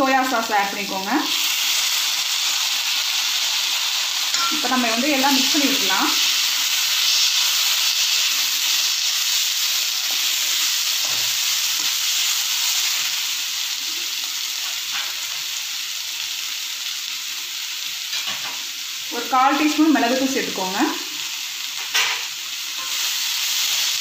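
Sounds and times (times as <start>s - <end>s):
vegetables stir-frying sizzle: 0.0s - 24.0s.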